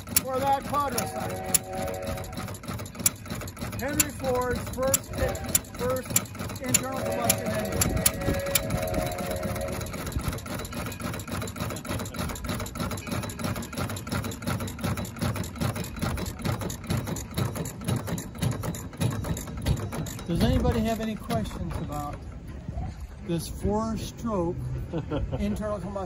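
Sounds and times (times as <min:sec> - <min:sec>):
single-cylinder engine running: 0:00.0 - 0:22.4.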